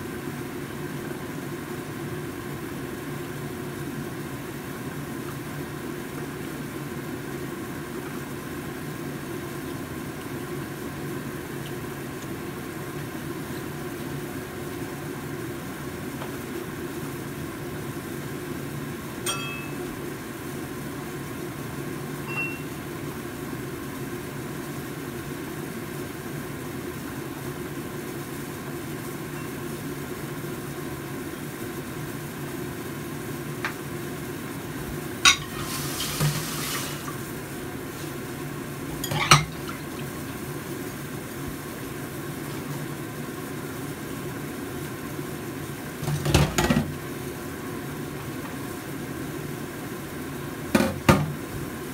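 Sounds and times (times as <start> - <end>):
broth boiling in a pot: 0.0 - 51.9.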